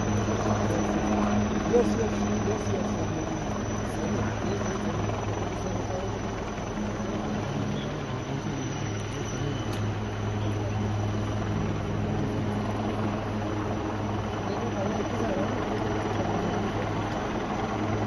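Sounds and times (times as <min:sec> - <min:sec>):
helicopter running: 0:00.0 - 0:18.0.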